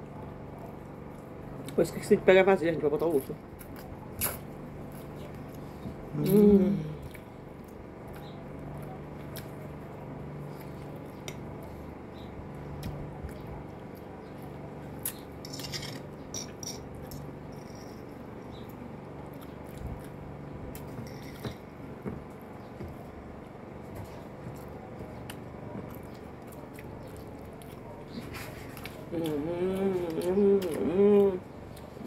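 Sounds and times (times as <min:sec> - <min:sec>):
faint low hum: 0:00.0 - 0:32.0
soft eating sounds: 0:00.0 - 0:32.0.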